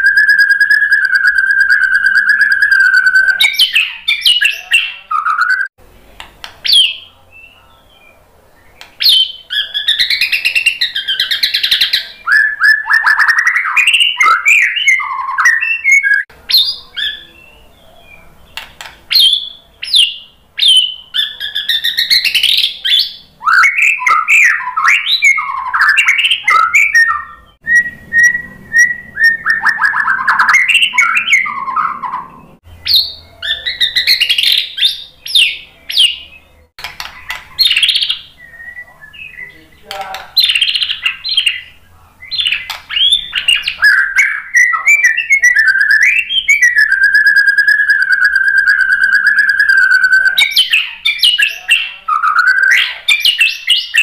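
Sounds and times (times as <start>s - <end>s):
bird singing whistles and trills: 0.0s - 5.7s, 6.6s - 18.3s, 19.1s - 39.6s, 40.4s - 54.0s.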